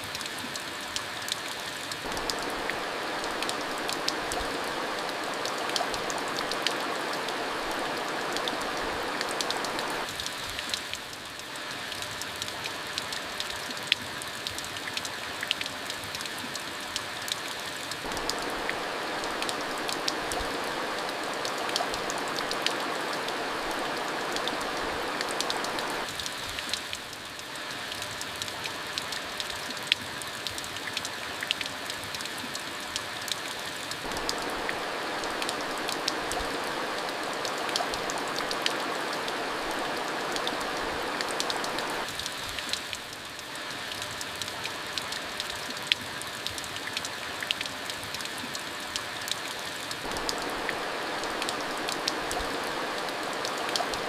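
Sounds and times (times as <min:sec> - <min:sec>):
steady rainfall: 0:00.0 - 0:54.0
raindrops ticking: 0:00.1 - 0:32.3, 0:32.9 - 0:54.0.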